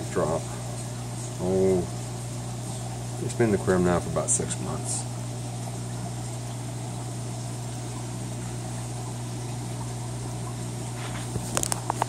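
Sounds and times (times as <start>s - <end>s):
aquarium pump hum: 0.0s - 12.0s.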